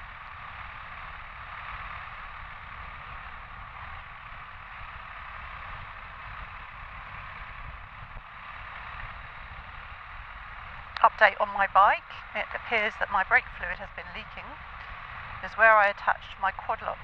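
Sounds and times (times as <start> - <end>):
motorcycle engine rumble: 0.0 - 17.0
wind and road noise: 0.0 - 17.0.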